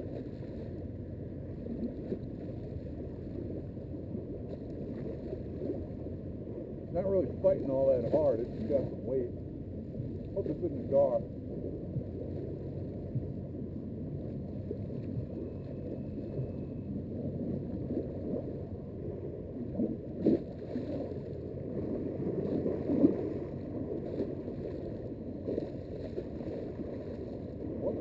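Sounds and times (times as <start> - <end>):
wind: 0.0 - 28.0.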